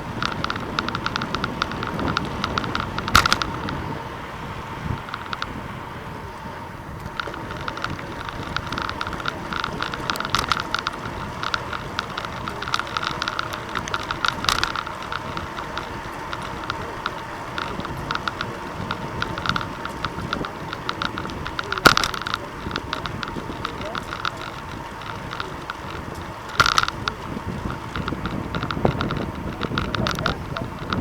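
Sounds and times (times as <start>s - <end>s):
bicycle clicking and ticking: 0.0s - 31.0s
wind and road noise: 0.0s - 31.0s.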